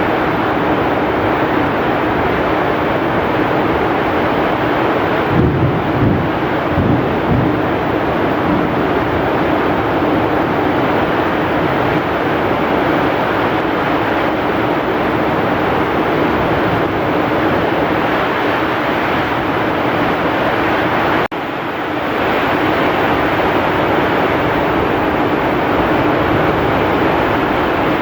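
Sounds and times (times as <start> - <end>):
heavy rain pouring: 0.0 - 28.0
strong wind: 0.0 - 28.0.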